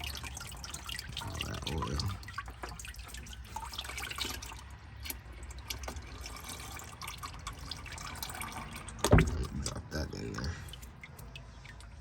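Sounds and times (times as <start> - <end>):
oil trickling into drain pan: 0.0 - 12.0.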